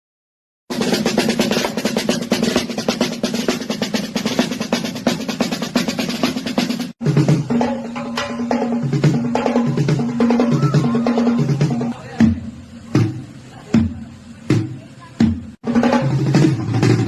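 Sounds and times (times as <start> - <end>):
fast drum roll: 0.7 - 17.0
sparse drum beat: 0.7 - 17.0.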